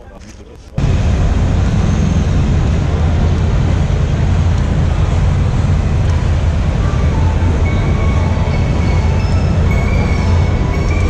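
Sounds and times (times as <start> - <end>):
motorcycles rumbling: 0.8 - 11.0.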